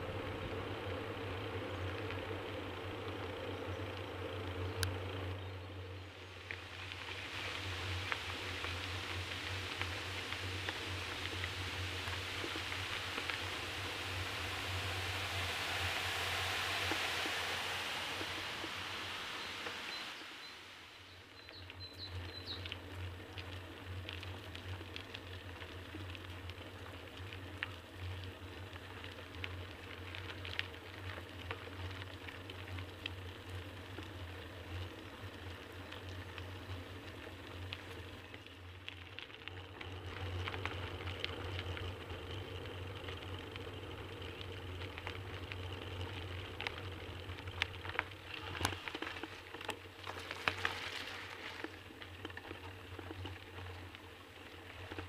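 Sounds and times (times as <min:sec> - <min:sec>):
bicycle tyres rumbling on gravel: 0:00.0 - 0:55.0
small ticks and rattles: 0:00.0 - 0:55.0.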